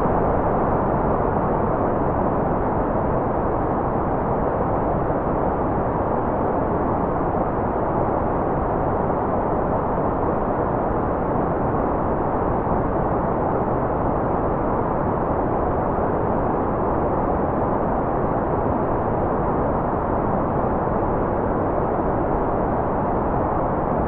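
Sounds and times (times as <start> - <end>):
muffled white noise hiss: 0.0 - 24.0.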